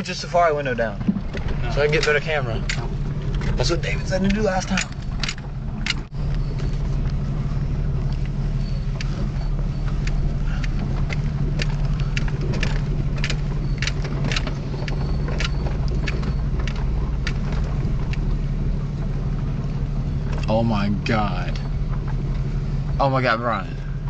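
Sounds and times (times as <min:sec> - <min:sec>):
sharp clicks and rattles: 0:00.0 - 0:24.0
vehicle engine running low revs: 0:00.0 - 0:24.0.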